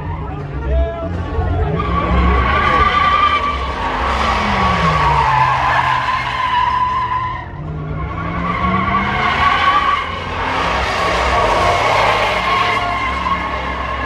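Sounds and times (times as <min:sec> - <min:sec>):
car engine revving: 0:00.0 - 0:14.0
tyres squealing: 0:00.0 - 0:14.0.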